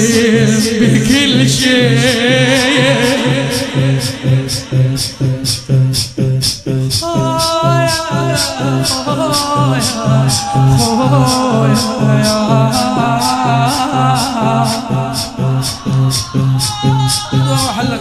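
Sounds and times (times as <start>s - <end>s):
person singing wordless line: 0.0s - 5.9s, 6.6s - 18.0s
deep thumping beat: 0.0s - 18.0s.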